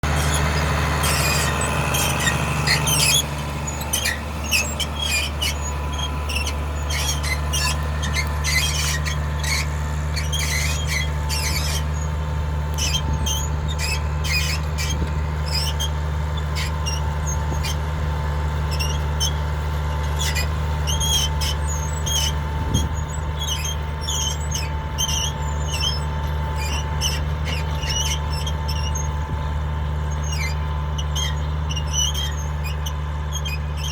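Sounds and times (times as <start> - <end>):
plough squeaking: 0.0 - 17.9, 18.6 - 33.9
tractor diesel engine running: 0.0 - 33.9.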